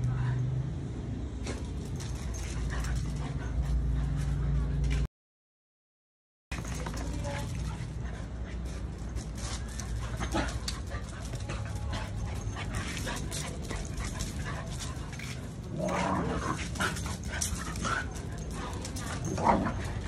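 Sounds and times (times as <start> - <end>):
dog paws scrabbling on concrete: 1.4 - 5.1, 6.5 - 20.0.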